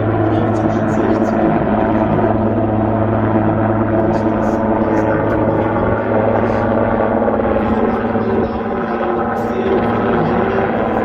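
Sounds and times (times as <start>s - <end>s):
aircraft engine drone: 0.0s - 11.0s.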